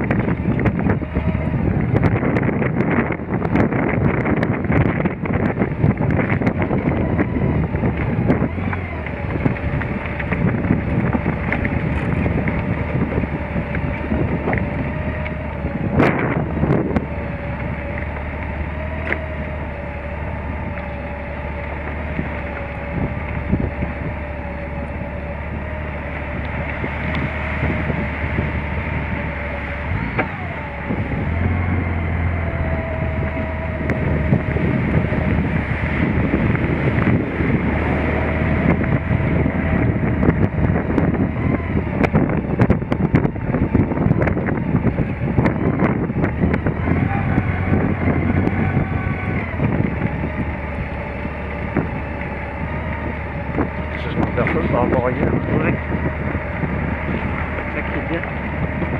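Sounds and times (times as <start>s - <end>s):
constant whine: 0.0s - 58.9s
motorcycle engine running: 0.0s - 58.9s
wind buffeting microphone: 0.0s - 58.9s.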